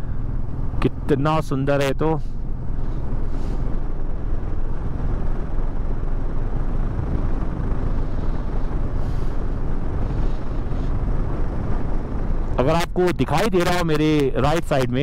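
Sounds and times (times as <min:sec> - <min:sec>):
motorcycle engine drone: 0:00.0 - 0:15.0
wind rushing over microphone: 0:02.3 - 0:15.0.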